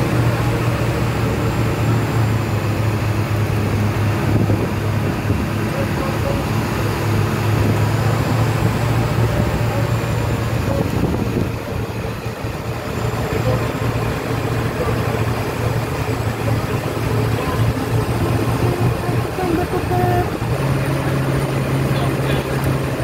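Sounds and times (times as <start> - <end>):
road and wind rumble: 0.0 - 23.0
truck engine droning: 0.0 - 23.0.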